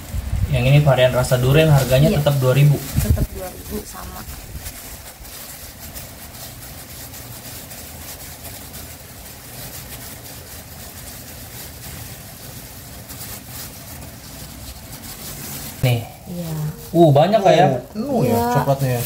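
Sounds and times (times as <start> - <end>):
plastic gloves crinkling: 0.0 - 19.0.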